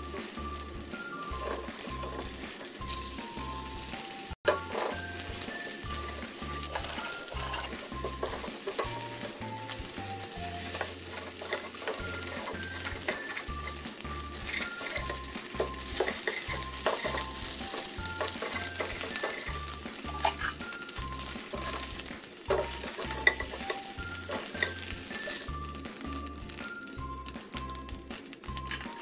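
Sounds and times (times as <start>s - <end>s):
spatula scraping wok: 0.0s - 26.5s
eggs sizzling in hot oil: 0.0s - 29.0s
quiet background music with beat: 0.0s - 29.0s.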